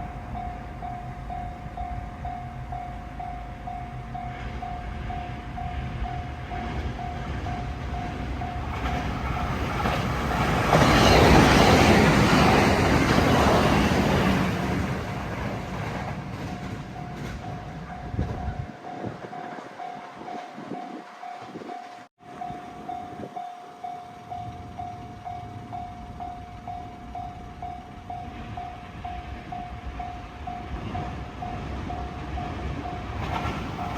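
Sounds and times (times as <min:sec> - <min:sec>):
crossing warning bell ringing: 0:00.0 - 0:33.9
electric train passing: 0:00.0 - 0:33.9.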